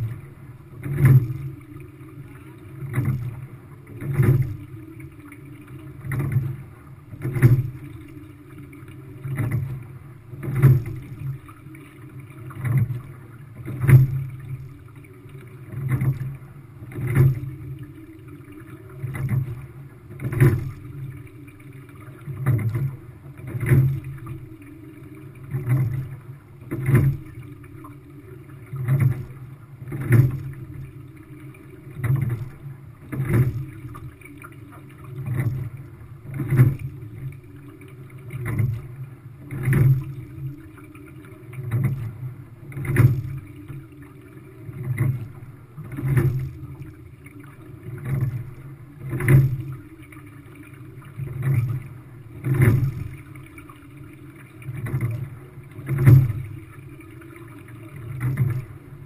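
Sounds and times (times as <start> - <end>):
water rushing along hull: 0.0 - 59.0.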